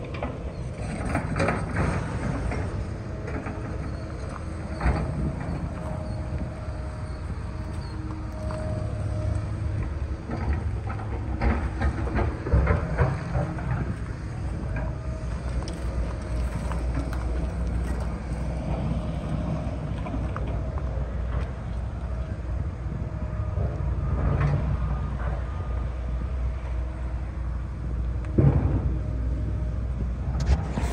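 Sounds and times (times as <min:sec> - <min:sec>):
low engine rumble: 0:00.0 - 0:30.9.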